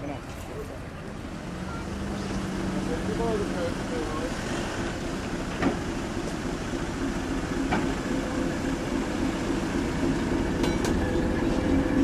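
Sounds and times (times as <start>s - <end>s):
locomotive diesel engine drone: 0.0s - 12.0s.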